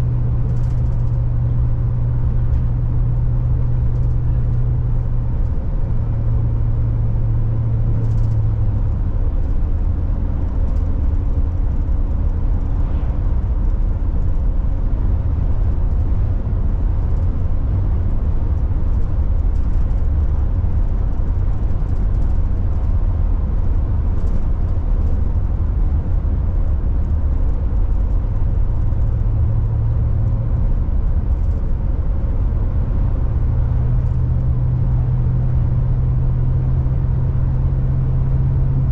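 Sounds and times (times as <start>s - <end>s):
engine and tyre rumble: 0.0s - 38.9s
hum: 0.0s - 38.9s.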